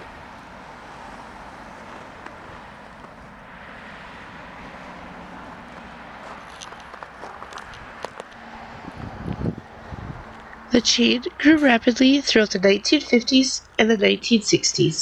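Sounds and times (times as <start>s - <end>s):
cars passing on street: 0.0s - 15.0s.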